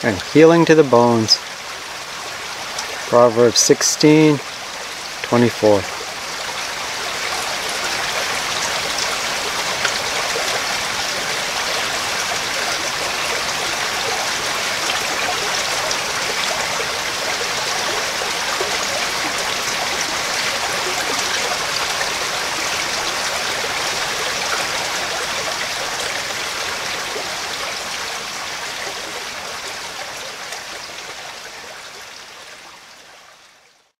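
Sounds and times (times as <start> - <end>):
stream running over stones: 0.0 - 33.9.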